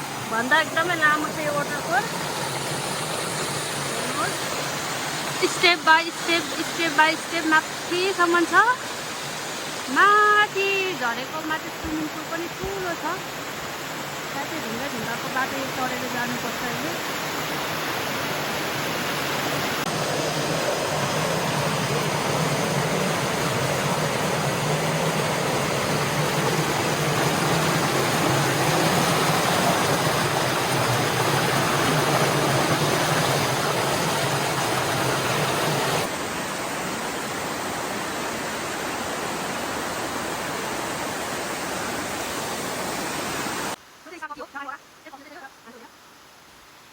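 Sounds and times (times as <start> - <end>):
waterfall rushing: 0.0 - 44.3.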